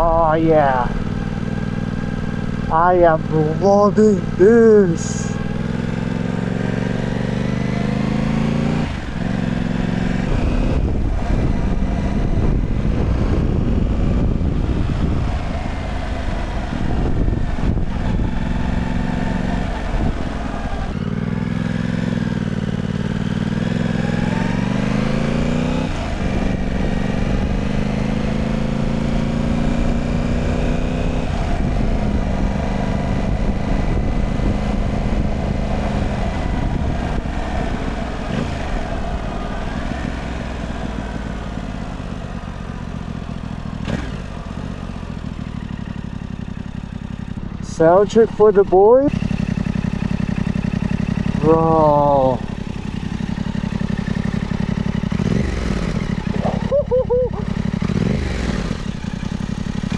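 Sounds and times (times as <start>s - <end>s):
motorcycle engine under throttle: 0.0s - 2.7s, 5.2s - 59.9s.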